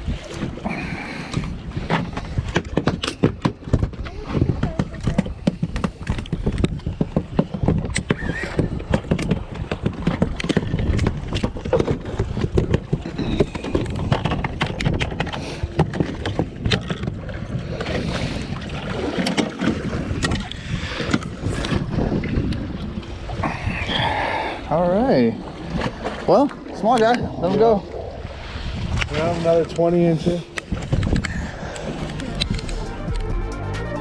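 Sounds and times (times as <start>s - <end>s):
wind buffeting microphone: 0.0s - 33.2s
water slapping boat hull: 0.0s - 33.3s.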